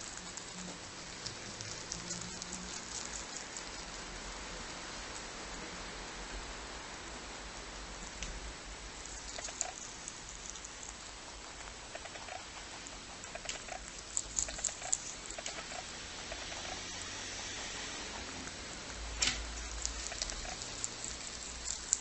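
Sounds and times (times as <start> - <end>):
rabbit chewing greens: 0.0 - 22.0
steady hiss: 0.0 - 22.0.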